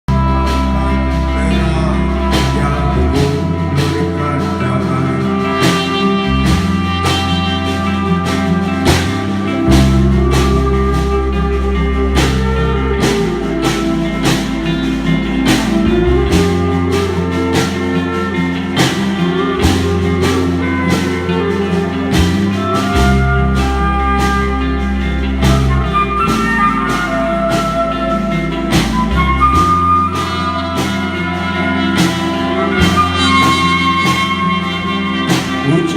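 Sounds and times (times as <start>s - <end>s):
live band playing instrumental: 0.1s - 35.9s.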